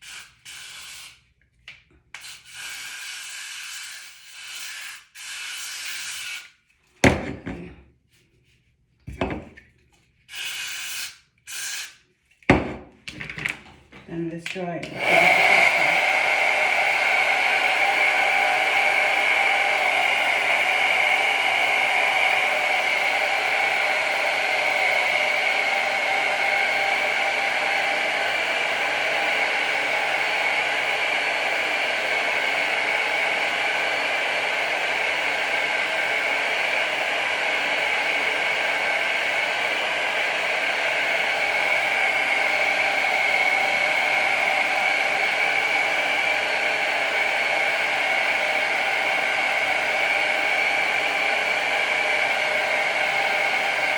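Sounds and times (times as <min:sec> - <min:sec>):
hair dryer running: 0:00.0 - 0:07.8, 0:10.3 - 0:53.9.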